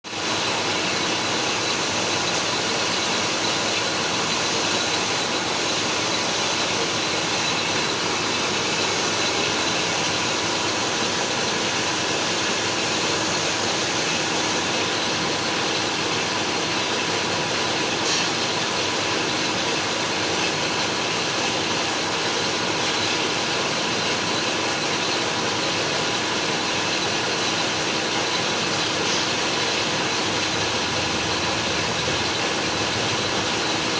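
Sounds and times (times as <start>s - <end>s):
lathe whining while machining: 0.1s - 33.9s.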